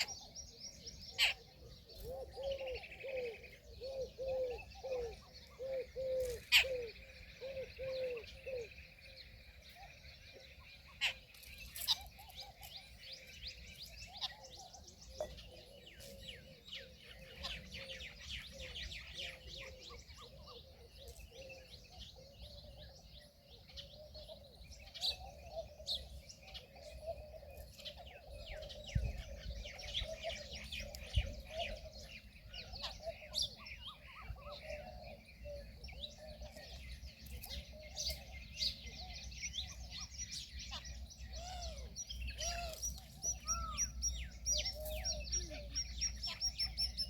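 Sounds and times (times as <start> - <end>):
sharp loud bird calls: 0.0 - 47.0
small birds chirping: 0.0 - 47.0.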